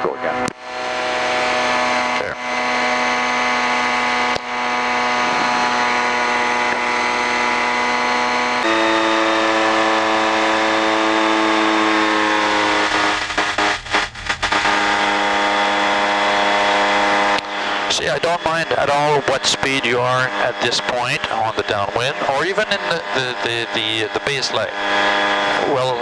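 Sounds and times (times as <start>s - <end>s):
light aircraft engine and propeller: 0.0s - 26.0s.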